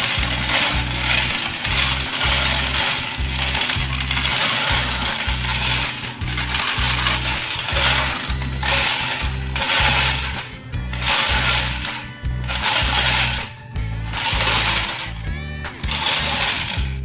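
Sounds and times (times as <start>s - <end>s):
background music with beat: 0.0s - 17.0s
stones rattling in toy drum: 0.0s - 17.0s.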